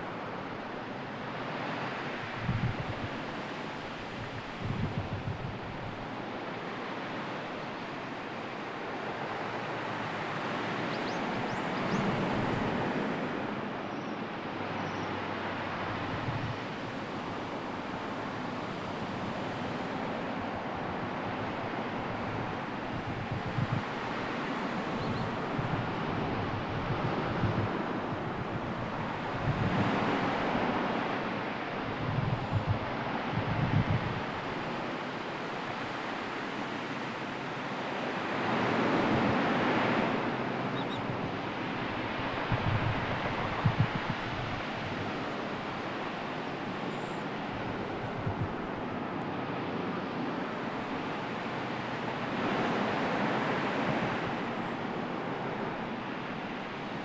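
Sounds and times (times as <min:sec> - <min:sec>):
sea surf rushing: 0:00.0 - 0:57.0
wind: 0:00.0 - 0:57.0.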